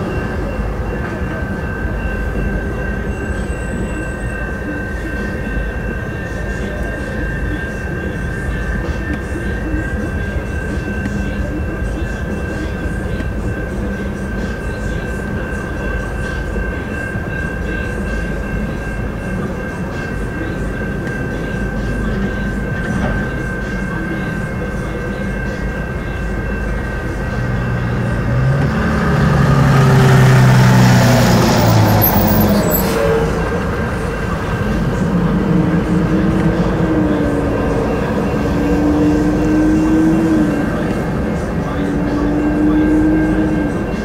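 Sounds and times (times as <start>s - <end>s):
crossing warning bell ringing: 0.0s - 44.0s
train cars rolling: 0.0s - 44.0s
train engine: 0.0s - 44.0s.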